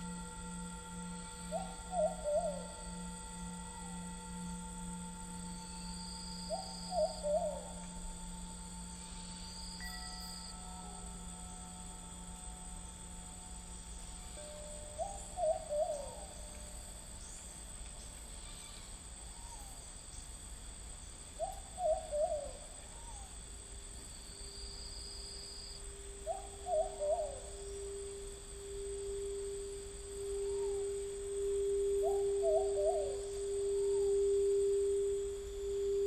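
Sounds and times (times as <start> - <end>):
night bird hooting calls: 0.0 - 13.3, 14.0 - 20.0, 21.3 - 23.4, 24.6 - 36.0
crystal singing bowl tone: 0.0 - 36.0
high insect trill: 0.0 - 36.0.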